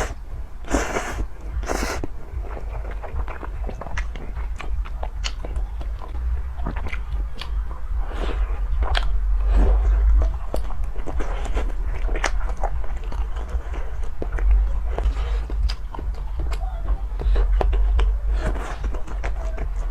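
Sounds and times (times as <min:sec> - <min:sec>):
biting and chewing: 0:00.0 - 0:19.9.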